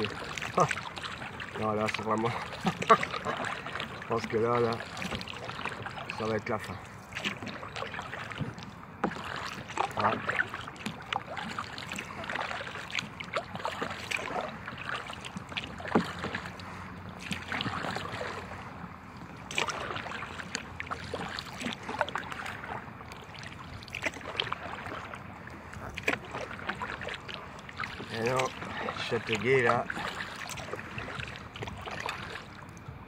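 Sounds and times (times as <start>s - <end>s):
paddle splashes and drips: 0.0s - 33.0s
water lapping against hull: 0.0s - 33.0s.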